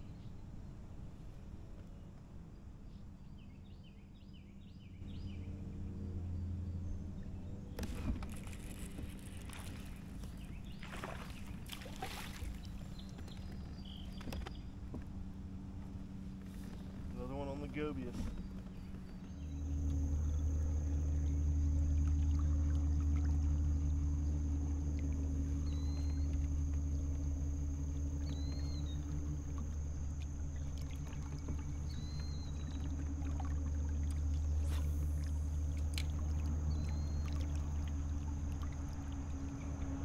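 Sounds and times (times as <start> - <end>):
boat motor humming with high whine: 0.0 - 40.0.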